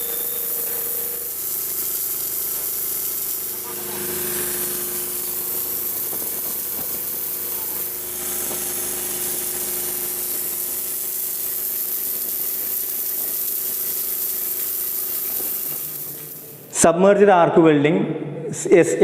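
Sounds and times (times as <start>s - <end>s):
welding hiss: 0.0s - 16.8s
steady hum: 0.0s - 17.0s.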